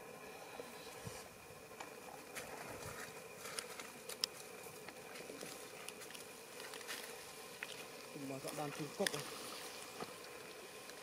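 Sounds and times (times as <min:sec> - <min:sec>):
insect drone: 0:00.0 - 0:11.0.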